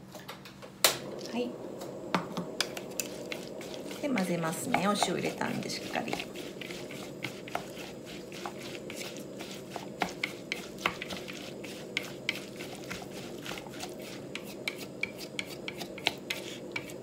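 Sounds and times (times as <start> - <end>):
wet rubbing of batter: 2.7 - 17.0.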